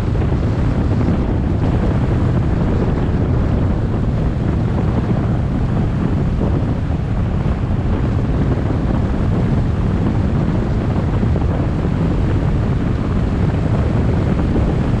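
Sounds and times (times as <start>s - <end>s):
car road and wind noise: 0.0s - 15.0s
wind buffeting microphone: 0.0s - 15.0s.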